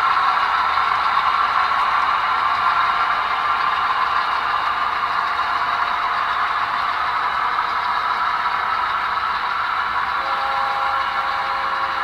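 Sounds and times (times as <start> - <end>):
model train cars rolling on track: 0.0 - 12.0.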